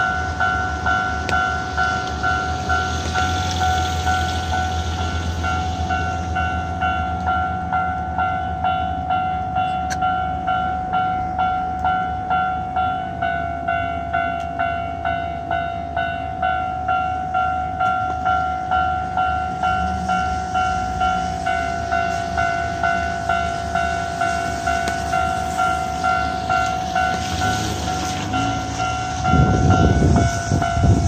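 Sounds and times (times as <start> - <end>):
level crossing alarm bell: 0.0 - 31.0.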